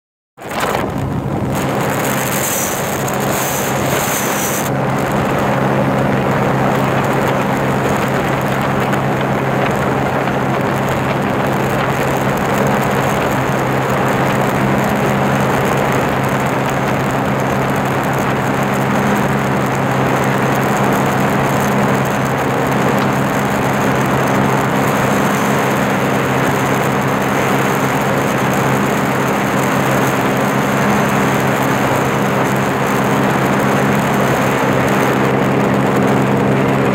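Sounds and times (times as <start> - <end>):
jet ski engine droning: 0.4 - 36.9
wind and spray rushing: 0.4 - 36.9.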